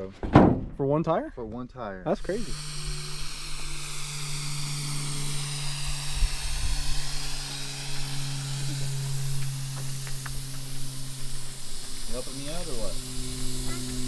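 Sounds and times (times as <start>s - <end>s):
steady low hum: 0.0s - 14.0s
air hissing from tire valve: 2.1s - 14.0s.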